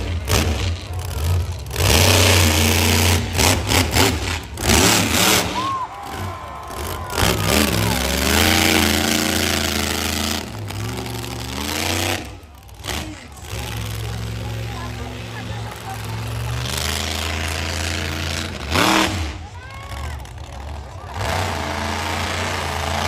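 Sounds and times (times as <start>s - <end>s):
monster truck engine revving: 0.0s - 23.0s.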